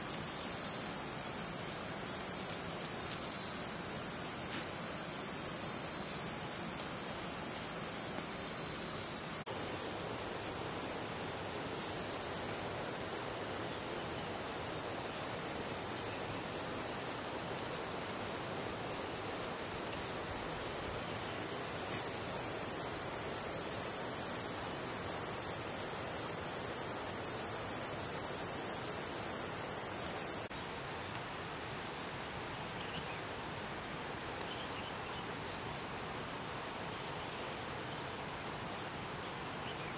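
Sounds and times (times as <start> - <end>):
crickets trilling: 0.0 - 39.9
faint outdoor hiss: 0.0 - 39.9.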